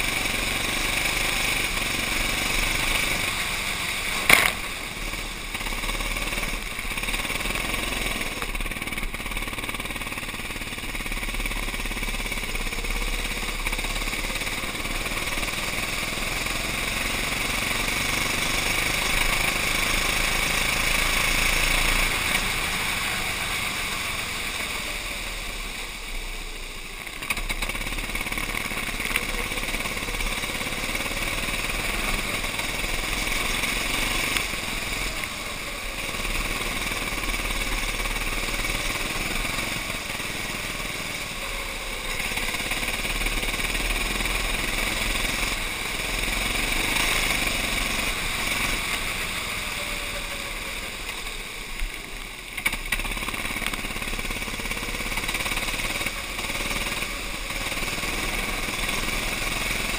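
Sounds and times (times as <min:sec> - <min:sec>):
kart engine running: 0:00.0 - 0:59.9
tyres hissing on wet track: 0:00.0 - 0:59.9.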